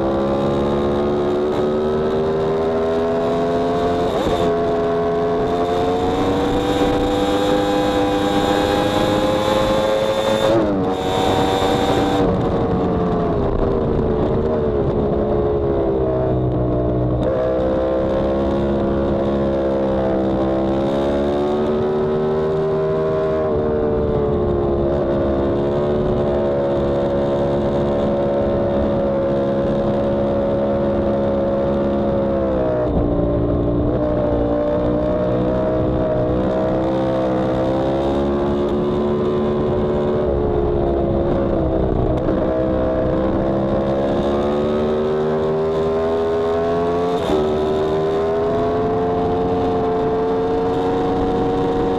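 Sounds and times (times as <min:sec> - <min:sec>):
motorcycle engine at speed: 0:00.0 - 0:51.9.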